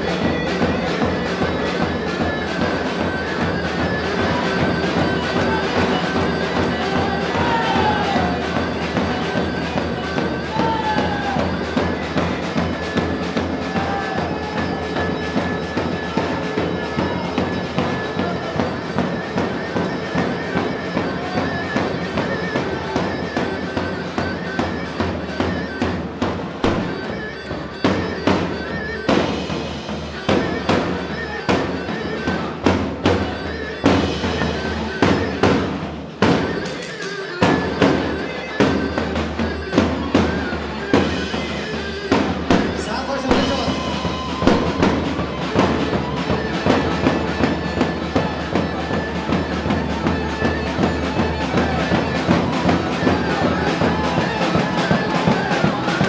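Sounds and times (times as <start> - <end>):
held wind instrument melody: 0.0 - 56.0.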